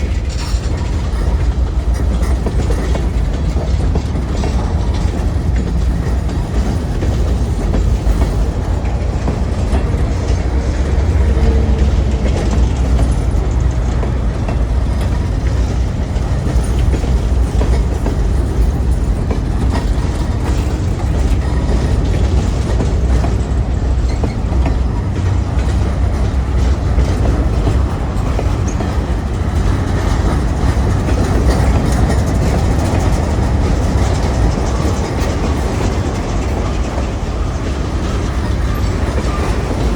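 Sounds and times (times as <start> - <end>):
train cars rumbling: 0.0 - 39.9
wheels clacking over rail joints: 0.0 - 39.9.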